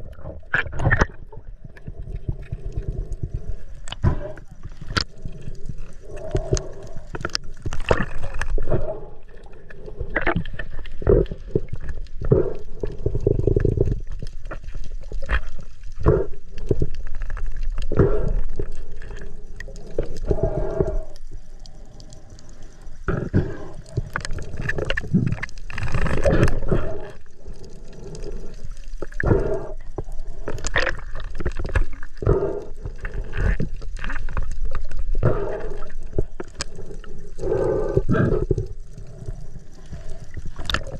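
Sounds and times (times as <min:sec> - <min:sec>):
underwater gurgling and bubbling: 0:00.0 - 0:40.9.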